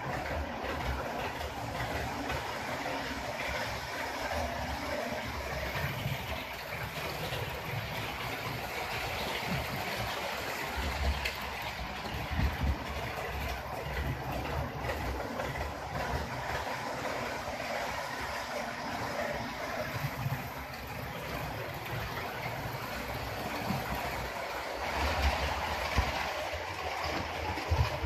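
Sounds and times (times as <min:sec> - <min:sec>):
model trains rolling on track: 0:00.0 - 0:28.0.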